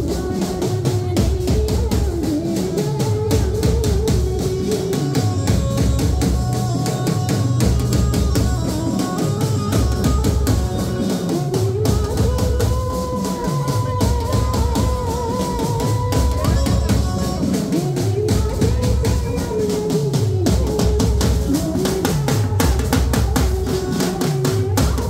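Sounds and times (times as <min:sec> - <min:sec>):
drums and cymbals beating: 0:00.0 - 0:25.0.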